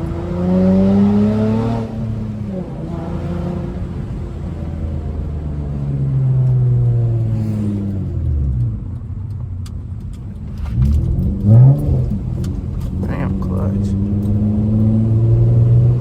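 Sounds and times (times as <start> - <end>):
car exhaust revving: 0.0 - 16.0.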